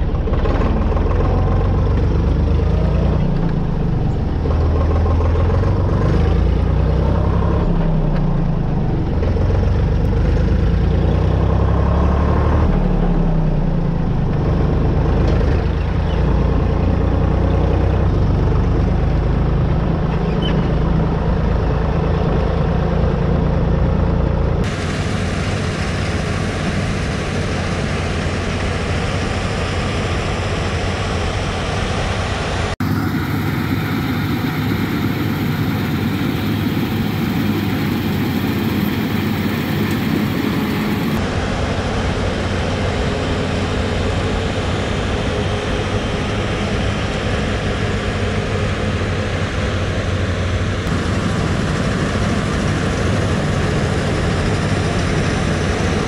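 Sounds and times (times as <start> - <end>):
machinery engine humming: 0.0 - 56.0.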